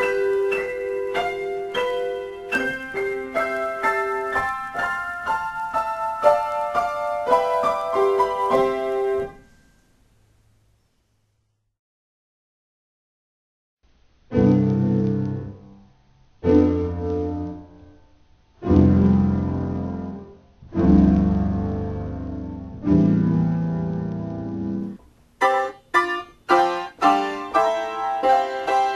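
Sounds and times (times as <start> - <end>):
piano chords: 0.0 - 10.0, 14.3 - 28.9.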